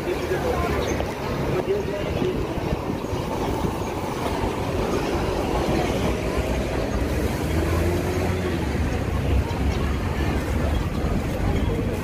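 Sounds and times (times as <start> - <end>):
heavy engine rumble: 0.0 - 12.0
road traffic: 0.0 - 12.0.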